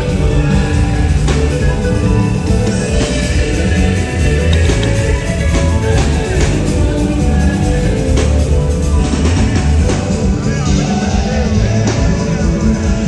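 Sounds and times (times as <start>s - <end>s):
bass: 0.0s - 13.0s
drums: 0.0s - 13.0s
electric guitar: 0.0s - 13.0s.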